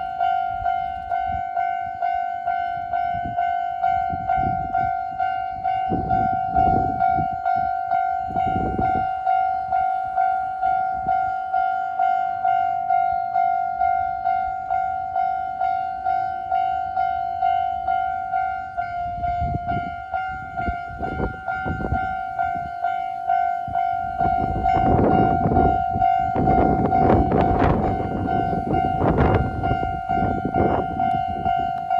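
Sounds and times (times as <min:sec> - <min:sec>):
level crossing warning bell ringing: 0:00.0 - 0:31.9.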